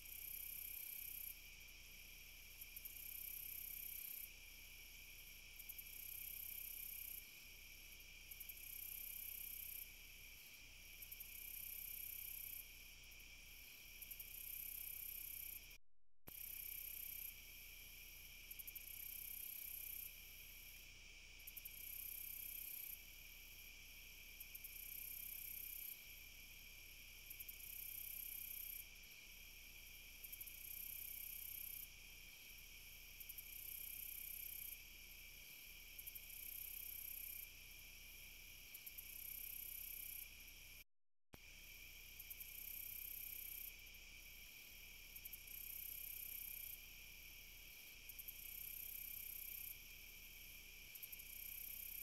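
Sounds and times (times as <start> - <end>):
insects trilling: 0.0 - 15.7, 16.3 - 40.6, 41.6 - 52.0
shrill pulsing insect call: 0.0 - 40.8, 41.4 - 52.0.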